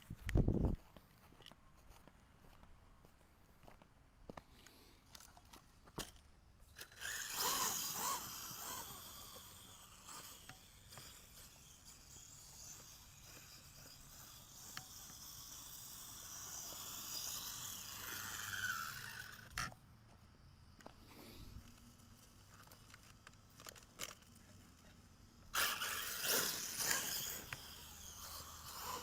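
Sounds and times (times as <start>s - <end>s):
rc truck motor whirring: 4.9s - 29.0s.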